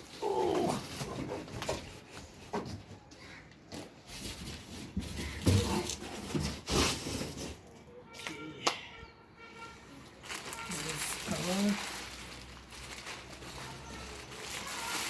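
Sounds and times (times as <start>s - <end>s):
packaging rustling and scraping: 0.0s - 8.4s, 10.0s - 15.0s.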